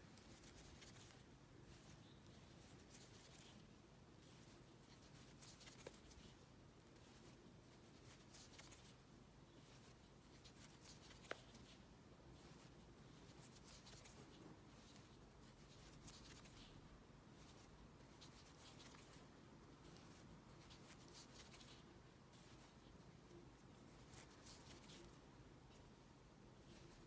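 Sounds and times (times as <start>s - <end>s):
crochet hook and yarn rustling: 0.0s - 27.0s.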